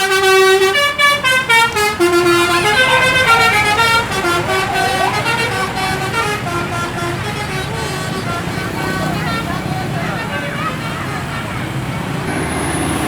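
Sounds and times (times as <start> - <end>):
musical bus horn tune: 0.0 - 12.6.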